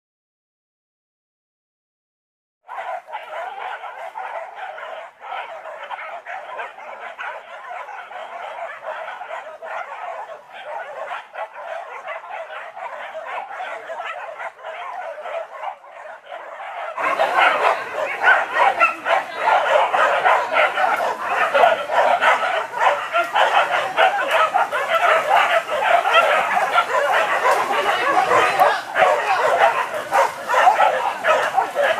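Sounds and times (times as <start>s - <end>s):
dogs barking and yelping: 2.7s - 31.9s.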